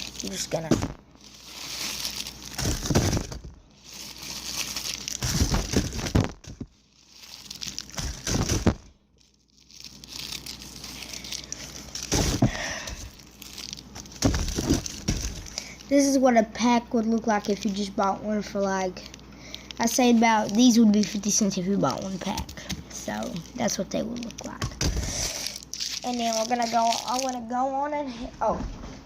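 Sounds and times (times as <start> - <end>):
packaging crinkling and rustling: 0.0 - 27.6.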